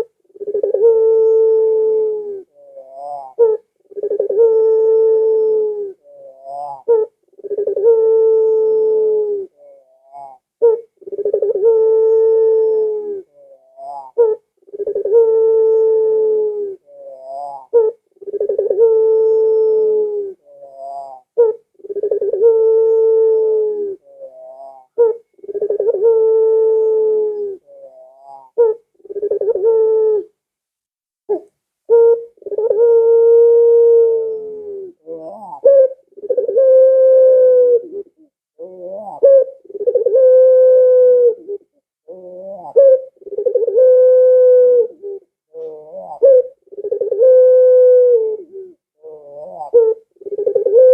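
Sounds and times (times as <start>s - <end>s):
dove cooing: 0.0s - 30.4s, 31.3s - 50.9s.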